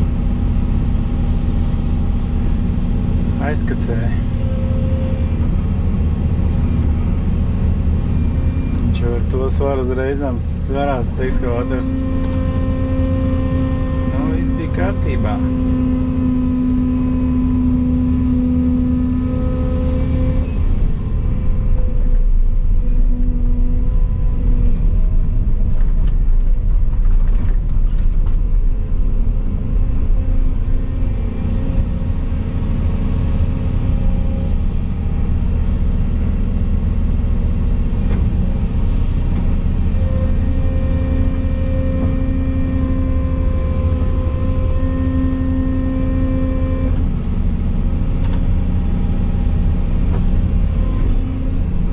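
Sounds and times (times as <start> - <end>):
excavator engine and hydraulics: 0.0 - 51.9.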